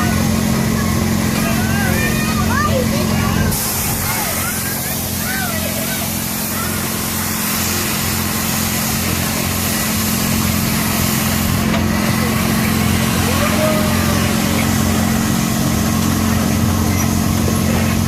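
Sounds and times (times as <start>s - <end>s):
faint voices: 0.0s - 18.0s
low engine hum: 0.0s - 18.0s.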